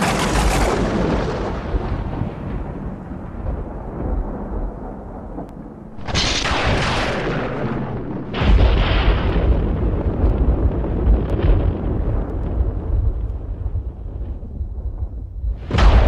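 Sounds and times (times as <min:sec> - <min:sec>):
thunder crack: 0:00.0 - 0:16.0
thunder crash: 0:00.0 - 0:16.0
thunder rumble: 0:00.0 - 0:16.0.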